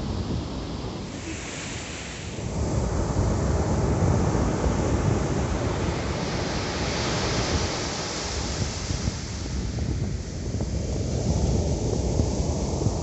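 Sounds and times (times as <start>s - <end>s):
surf washing up a beach: 0.0s - 13.0s
wind buffeting microphone: 2.4s - 13.0s.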